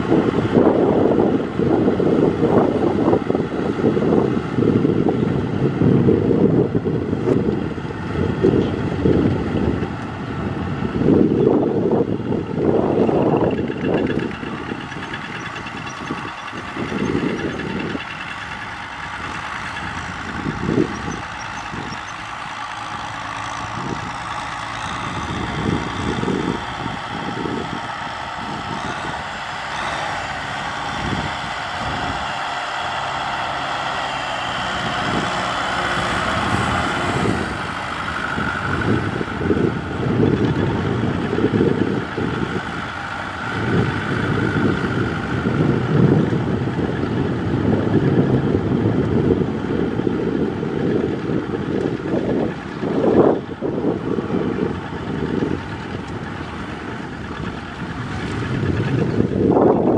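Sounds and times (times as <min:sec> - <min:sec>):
tractor diesel engine running: 0:00.0 - 0:59.9
wind gusts on microphone: 0:00.0 - 0:59.9.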